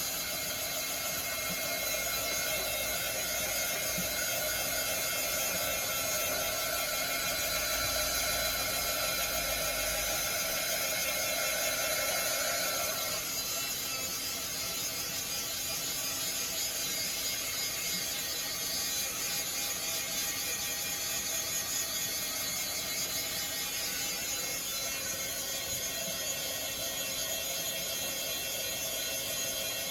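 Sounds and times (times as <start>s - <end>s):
heat tool fan whirring: 0.0s - 29.9s.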